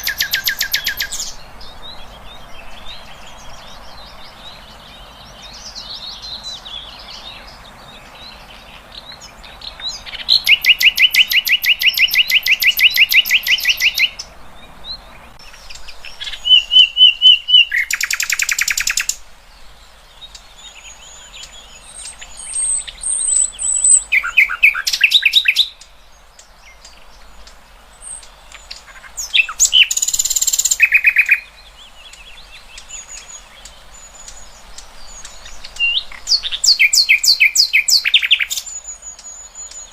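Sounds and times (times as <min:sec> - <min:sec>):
songbird trilling: 0:00.0 - 0:19.2, 0:20.2 - 0:39.9
faint bird twittering: 0:00.0 - 0:39.9.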